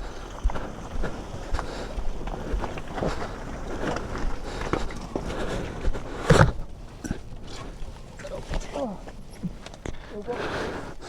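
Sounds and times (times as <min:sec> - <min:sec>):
footsteps on loose ground: 0:00.0 - 0:11.0.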